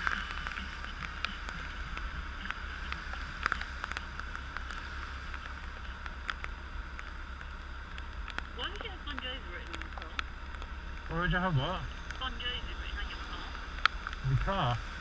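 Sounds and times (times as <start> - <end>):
motorcycle idling: 0.0 - 15.0
raindrops ticking on helmet: 0.0 - 15.0
steady rain hiss: 0.0 - 15.0.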